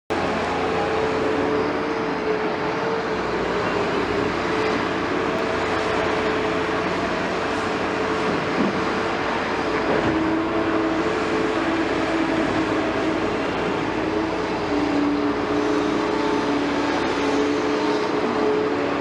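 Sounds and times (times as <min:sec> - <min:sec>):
excavator diesel engine running: 0:00.1 - 0:19.0
hydraulic whine: 0:00.1 - 0:19.0.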